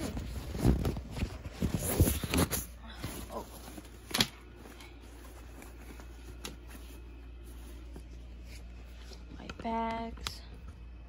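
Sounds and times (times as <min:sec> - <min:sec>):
bags rustling: 0:00.0 - 0:08.9.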